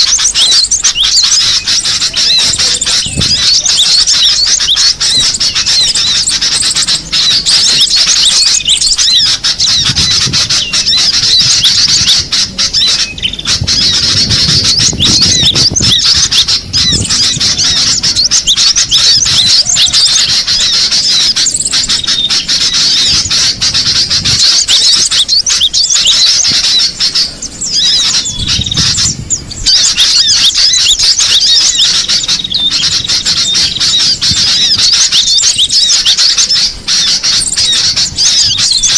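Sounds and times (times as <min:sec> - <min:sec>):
bird chattering high notes: 0:00.0 - 0:38.9.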